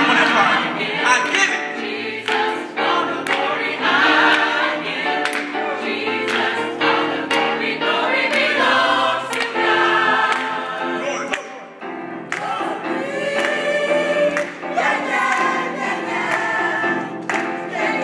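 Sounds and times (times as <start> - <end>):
choir singing in harmony: 0.0 - 18.0
grand piano accompaniment: 0.0 - 18.0.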